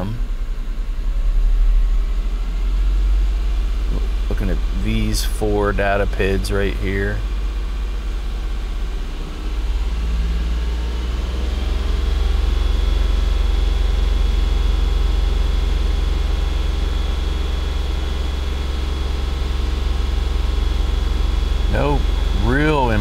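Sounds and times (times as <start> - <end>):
car engine idling: 0.0 - 23.0
thin steady whine: 0.0 - 23.0.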